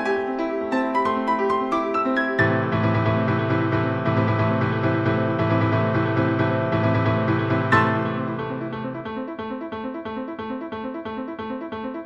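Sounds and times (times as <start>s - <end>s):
piano keyboard broken chords: 0.0s - 12.0s.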